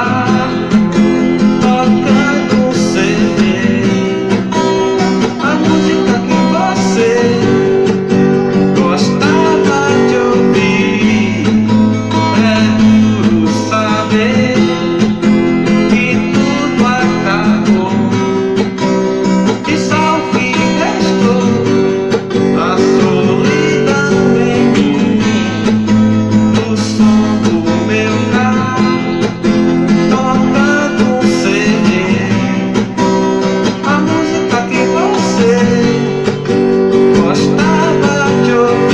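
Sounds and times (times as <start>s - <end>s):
person singing: 0.0s - 38.9s
strummed acoustic guitar: 0.0s - 38.9s.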